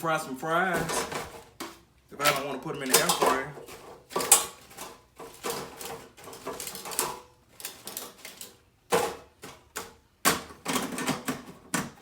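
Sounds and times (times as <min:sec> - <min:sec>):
gift packaging rustling and clattering: 0:00.0 - 0:12.0.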